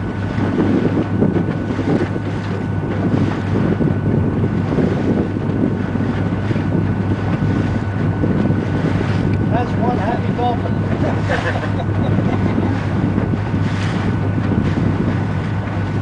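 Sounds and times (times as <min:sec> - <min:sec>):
boat engine humming: 0:00.0 - 0:16.0
wind gusting on microphone: 0:00.0 - 0:16.0.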